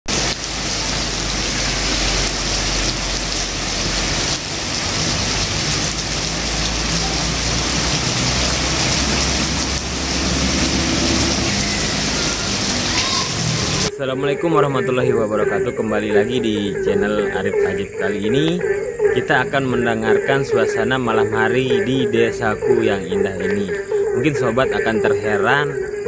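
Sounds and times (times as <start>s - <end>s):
frogs chorusing: 0.2s - 26.0s.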